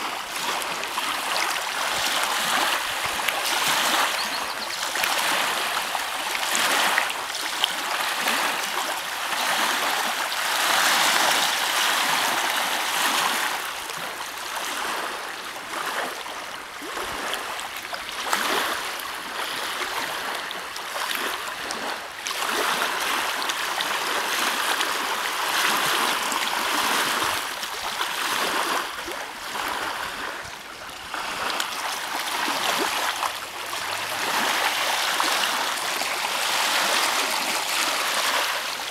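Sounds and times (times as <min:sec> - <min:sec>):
waves lapping at shore: 0:00.0 - 0:38.9.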